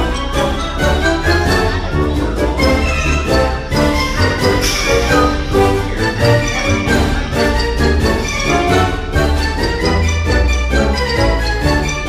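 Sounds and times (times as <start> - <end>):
background music with pulsing bass: 0.0 - 12.0.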